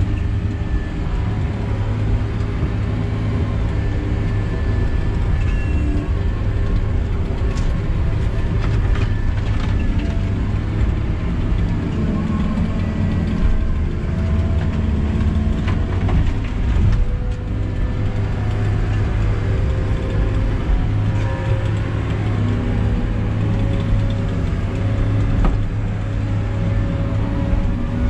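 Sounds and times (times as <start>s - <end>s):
engine running under load: 0.0s - 28.0s.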